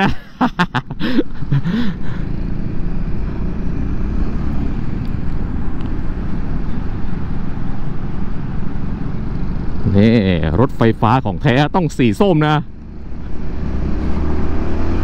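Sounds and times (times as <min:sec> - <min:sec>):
scooter engine and road noise: 0:00.0 - 0:15.0.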